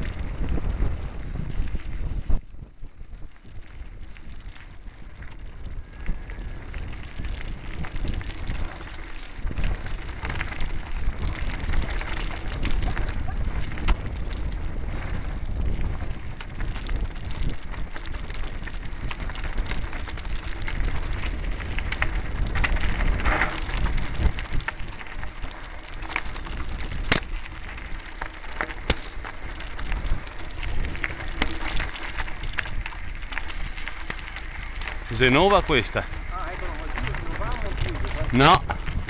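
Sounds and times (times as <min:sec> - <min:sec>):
bike rattling over bumps: 0:00.0 - 0:39.0
bike tyres crunching over stones: 0:00.0 - 0:39.0
wind buffeting microphone: 0:00.0 - 0:39.0.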